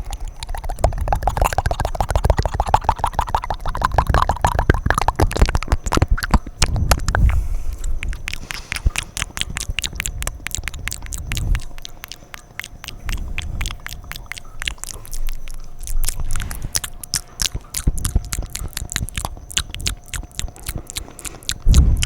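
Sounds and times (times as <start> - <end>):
wet mouth clicks and smacks: 0.0 - 22.0.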